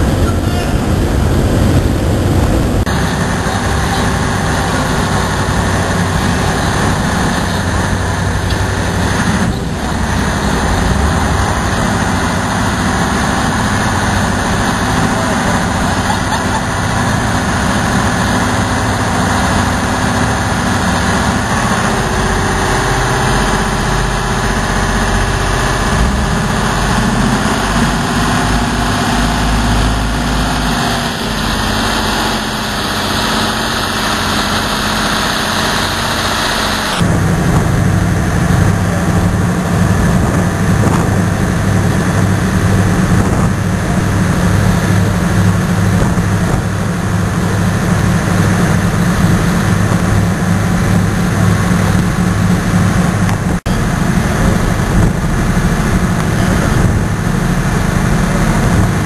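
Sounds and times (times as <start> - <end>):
boat engines running: 0.0 - 59.0
steady engine hum: 0.0 - 59.0.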